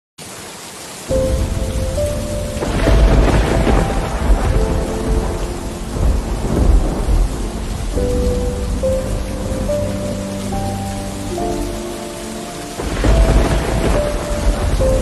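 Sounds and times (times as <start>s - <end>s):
heavy rain: 0.2s - 15.0s
soft background music: 1.1s - 15.0s
thunder rumbling: 1.1s - 15.0s.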